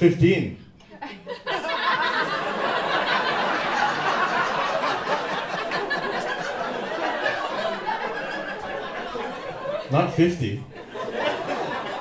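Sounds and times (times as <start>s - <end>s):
audience laughing: 0.9s - 12.0s.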